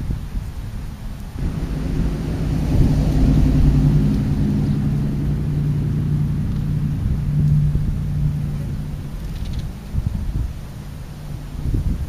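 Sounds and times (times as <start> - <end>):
engine humming: 1.1 - 12.0.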